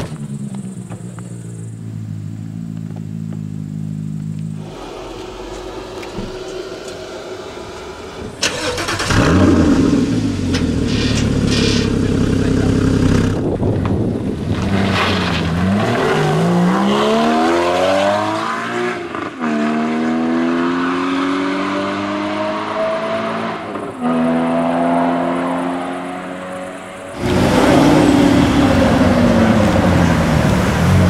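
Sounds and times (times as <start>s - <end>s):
car engine starting and revving: 0.0s - 31.0s.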